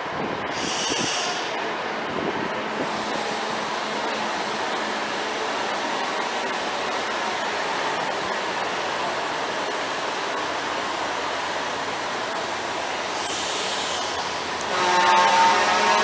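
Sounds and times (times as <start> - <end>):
train rushing past: 0.0 - 16.0.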